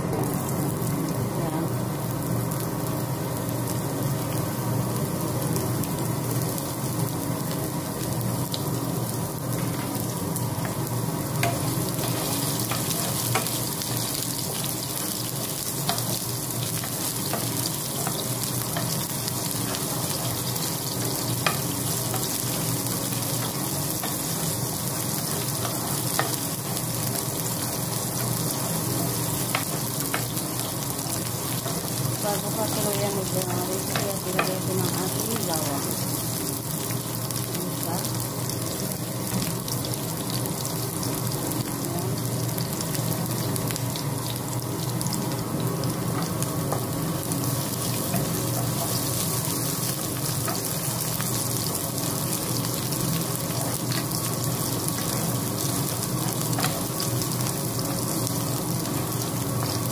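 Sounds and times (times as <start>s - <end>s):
onions sizzling in a frying pan: 0.0s - 59.9s.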